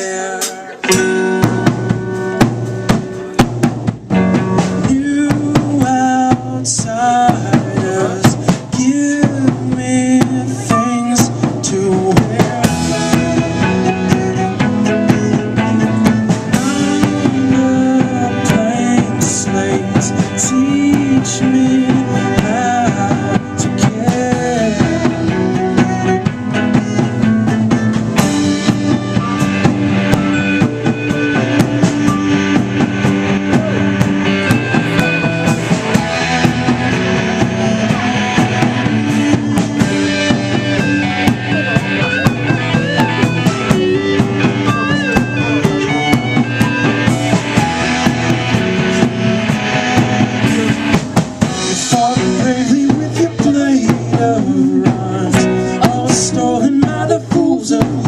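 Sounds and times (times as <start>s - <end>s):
drum kit: 0.0s - 58.0s
sustained bass and guitar notes: 0.0s - 58.0s
bass drum: 0.9s - 58.0s.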